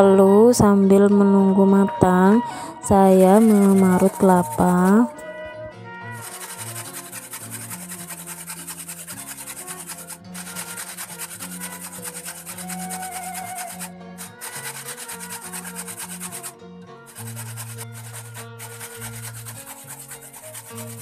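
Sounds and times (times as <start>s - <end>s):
coconut grated on metal grater: 3.0s - 5.1s, 6.2s - 21.0s.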